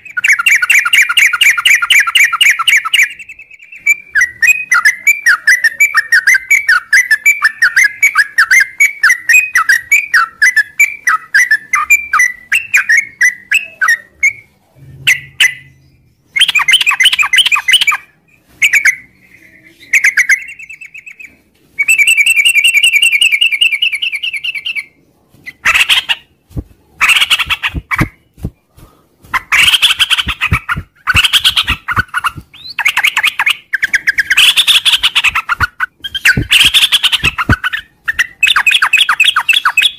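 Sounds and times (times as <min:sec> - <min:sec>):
bird chattering song: 0:00.0 - 0:26.4, 0:27.0 - 0:28.5, 0:29.3 - 0:39.9.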